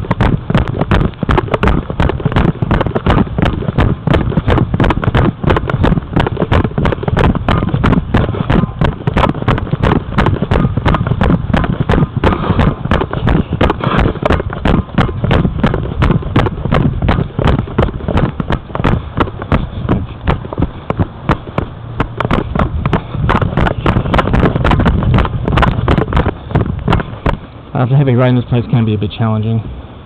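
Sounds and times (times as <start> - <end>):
wind buffeting microphone: 0.0 - 28.7
sharp clicks: 0.1 - 27.4.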